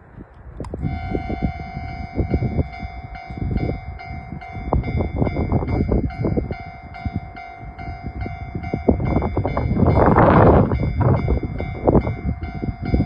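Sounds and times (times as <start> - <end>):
low rumbling: 0.0 - 13.0
level crossing warning bell ringing: 0.6 - 13.0.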